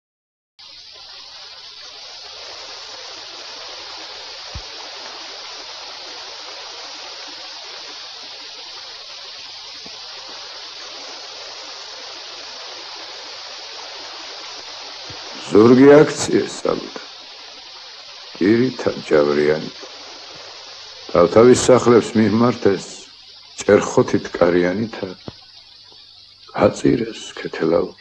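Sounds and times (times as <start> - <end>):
running water: 0.6 - 28.0.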